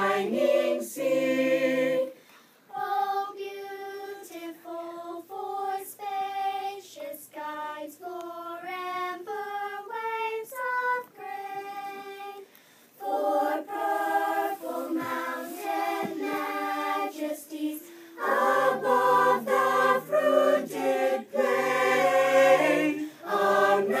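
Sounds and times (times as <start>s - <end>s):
voices singing in harmony: 0.0s - 24.0s.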